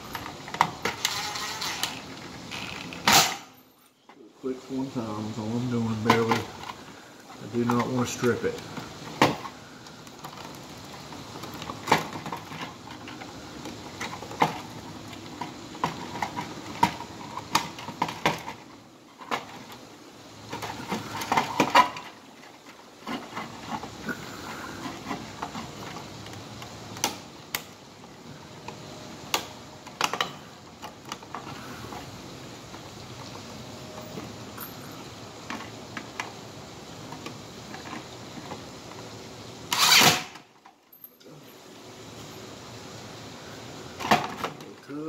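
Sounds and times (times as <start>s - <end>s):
faint steady hiss: 0.0s - 45.0s.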